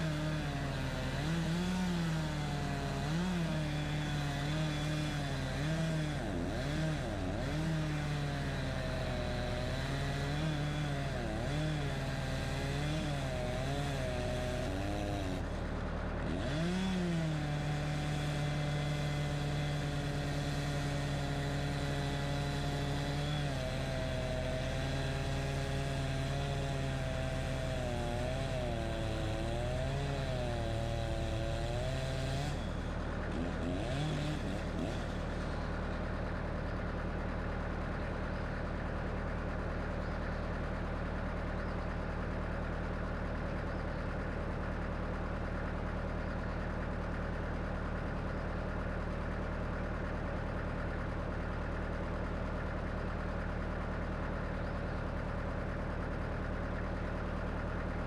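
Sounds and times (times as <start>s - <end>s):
sawmill engine under load: 0.0s - 58.0s.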